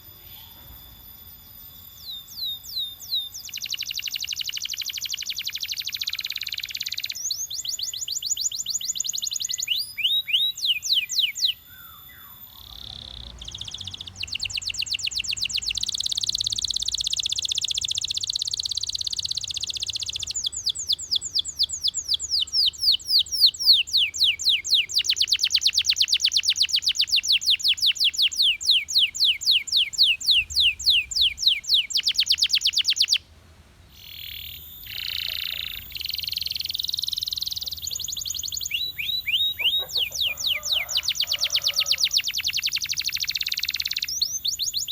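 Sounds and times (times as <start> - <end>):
canary singing trills: 0.0 - 33.2, 33.9 - 44.9.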